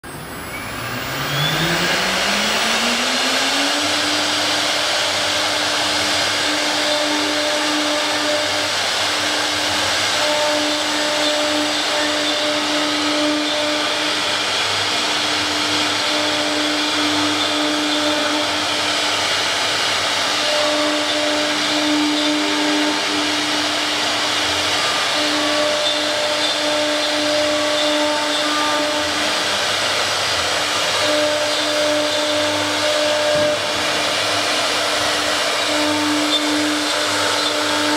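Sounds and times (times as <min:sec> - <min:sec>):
router spindle spinning: 0:00.0 - 0:37.9.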